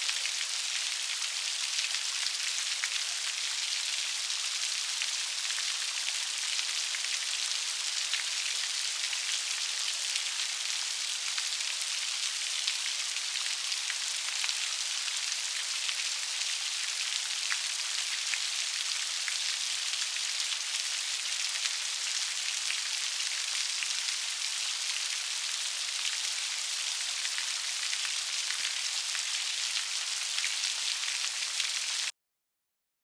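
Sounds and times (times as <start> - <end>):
steady rain hiss: 0.0 - 32.1.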